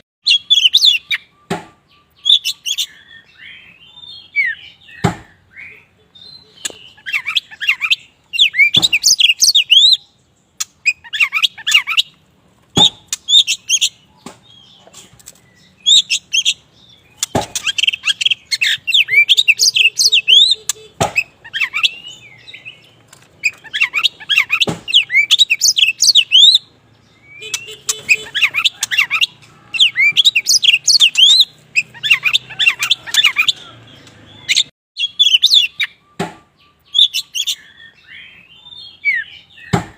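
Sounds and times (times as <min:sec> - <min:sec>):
bird singing whistles and chirps: 0:00.2 - 0:10.2, 0:15.4 - 0:39.8.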